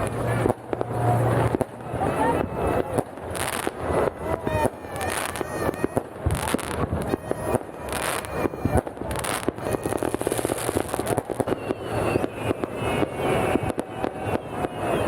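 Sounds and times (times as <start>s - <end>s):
fireworks bangs: 0.0s - 15.0s
fireworks crackling and popping: 0.0s - 15.0s.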